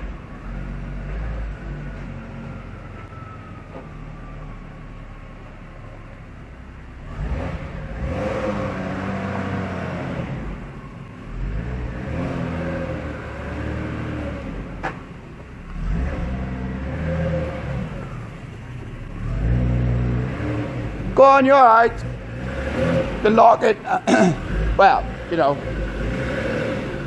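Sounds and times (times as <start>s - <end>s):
car engine revving: 4.0s - 27.0s.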